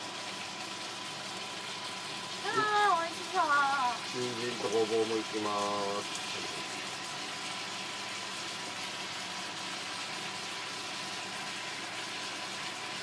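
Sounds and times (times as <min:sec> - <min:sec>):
food sizzling in oil in a frying pan: 0:00.0 - 0:13.0.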